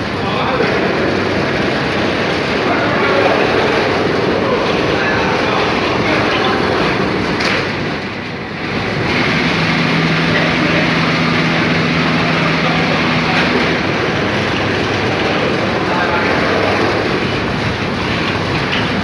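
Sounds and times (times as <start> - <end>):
loud steady machinery noise: 0.0 - 19.0
motor hum: 0.0 - 19.0.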